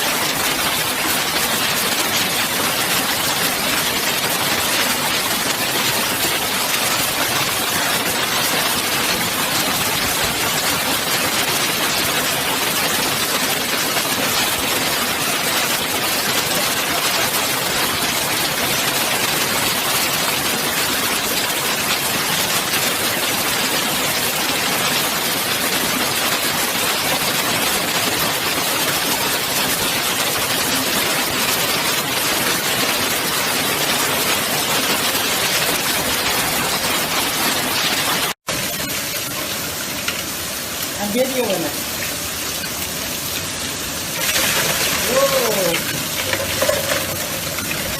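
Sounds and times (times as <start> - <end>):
hailstones clattering: 0.0 - 47.9.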